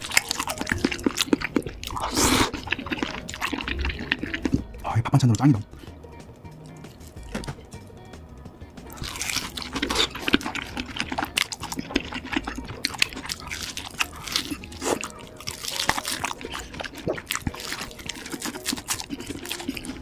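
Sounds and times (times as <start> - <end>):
person chewing crunchy food: 0.0 - 5.0, 8.9 - 20.0.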